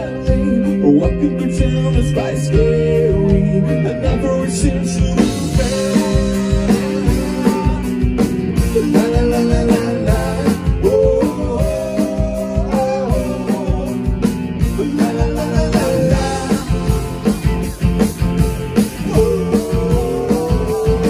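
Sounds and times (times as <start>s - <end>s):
drum kit beat: 0.0s - 21.0s
electric guitars: 0.0s - 21.0s.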